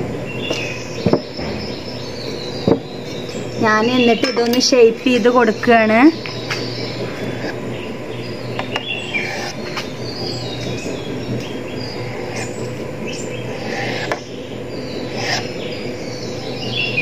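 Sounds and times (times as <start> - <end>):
low steady hum: 0.0 - 17.0
small birds chirping: 0.2 - 17.0.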